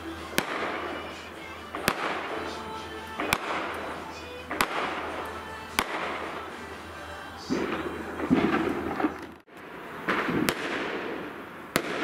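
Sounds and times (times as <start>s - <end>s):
crackle of sparks: 0.0s - 12.0s
fireworks bangs: 0.0s - 12.0s.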